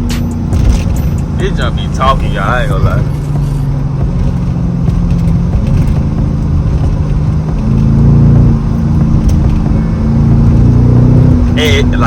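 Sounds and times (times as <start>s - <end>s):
car engine revving with pops: 0.0s - 12.0s.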